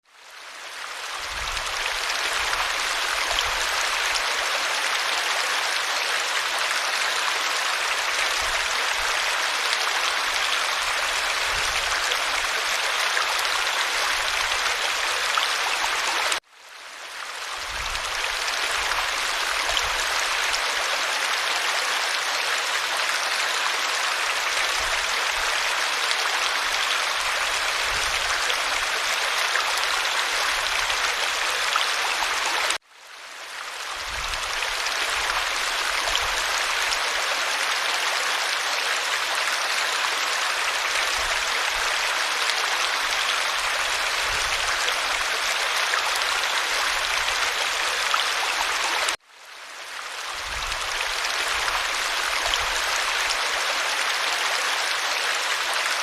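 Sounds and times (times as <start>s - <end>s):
creek water running over stones: 0.0s - 56.0s.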